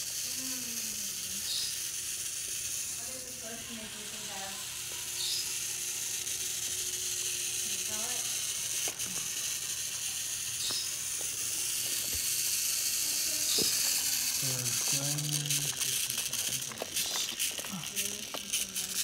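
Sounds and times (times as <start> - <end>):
toy train motor whirring: 0.0 - 19.0.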